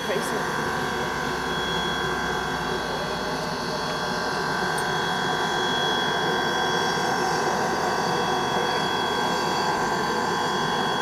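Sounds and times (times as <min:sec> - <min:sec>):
thin steady whine: 0:00.0 - 0:11.0.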